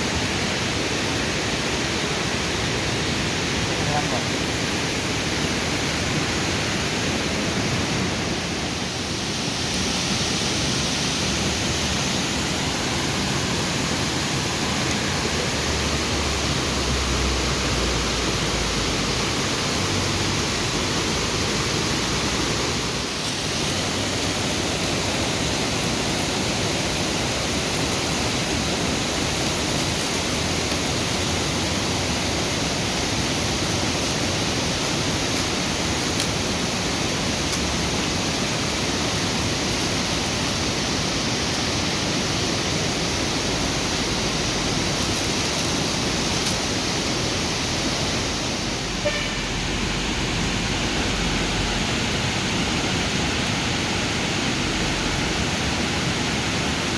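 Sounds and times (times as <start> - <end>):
river rushing: 0.0 - 56.9.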